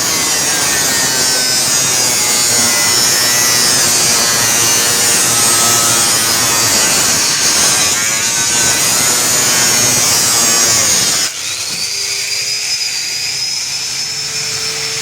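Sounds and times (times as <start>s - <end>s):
power tool cutting sheet steel: 0.0s - 15.0s
tool motor whining: 0.0s - 15.0s.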